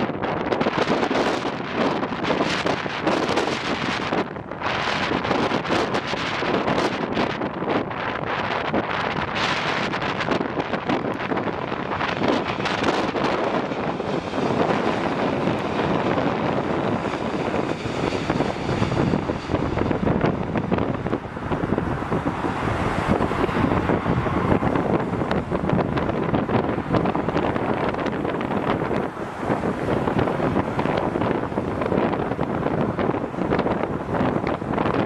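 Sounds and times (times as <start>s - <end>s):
gusty wind buffeting microphone: 0.0s - 35.0s.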